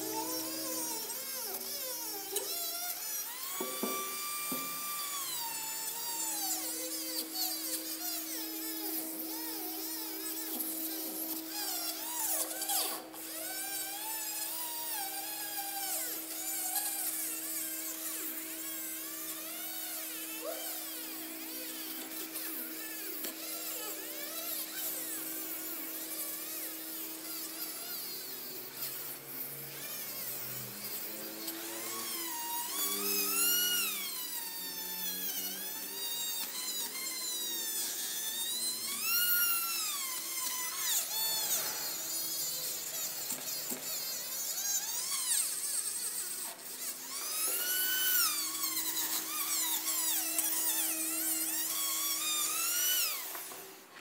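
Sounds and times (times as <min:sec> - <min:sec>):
rotary tool whining on metal: 0:00.0 - 0:54.0.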